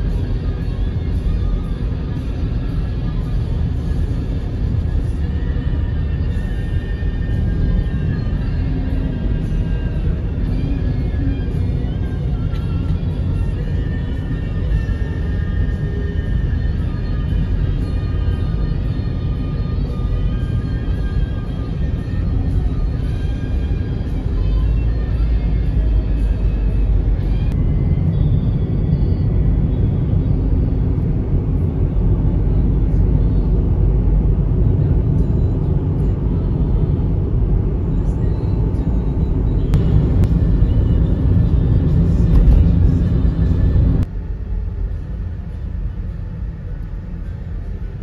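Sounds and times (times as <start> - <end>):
car interior road and engine rumble: 0.0 - 48.0
faint music: 0.0 - 48.0.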